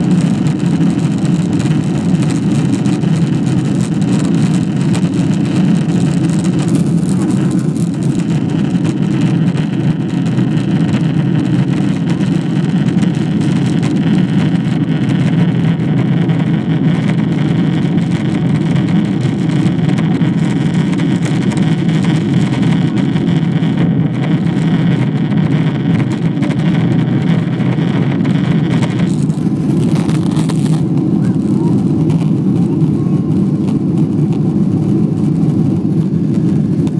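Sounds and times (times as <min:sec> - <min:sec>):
jet engines droning in cabin: 0:00.0 - 0:36.9
rushing airflow: 0:00.0 - 0:36.9.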